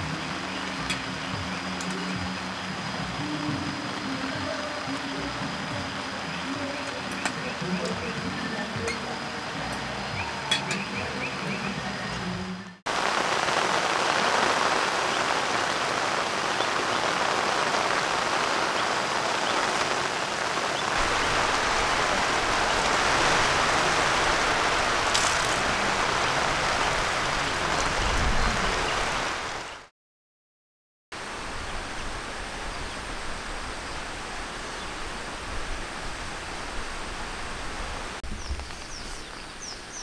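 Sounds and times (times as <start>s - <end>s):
heavy rain on a tent: 0.0s - 29.9s, 31.2s - 40.0s.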